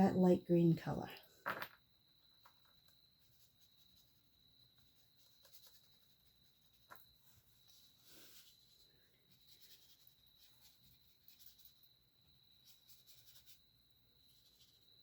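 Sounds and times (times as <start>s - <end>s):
faint high-pitched whine: 0.0s - 15.0s
paintbrush strokes on paper: 2.8s - 15.0s.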